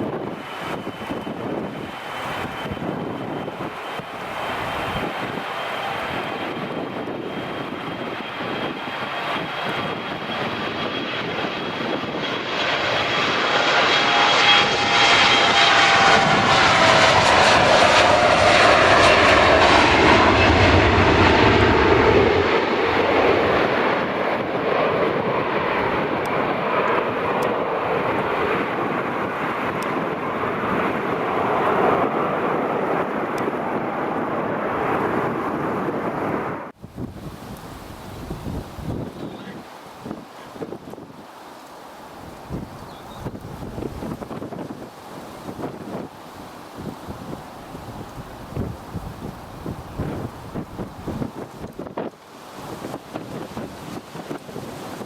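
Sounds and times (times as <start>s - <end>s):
airliner engines passing: 0.0s - 55.0s.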